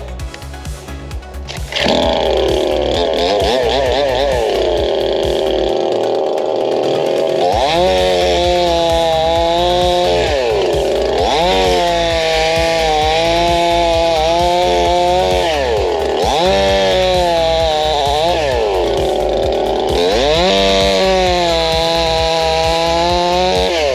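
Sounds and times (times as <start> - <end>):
chainsaw cutting a tree: 1.7 - 23.9.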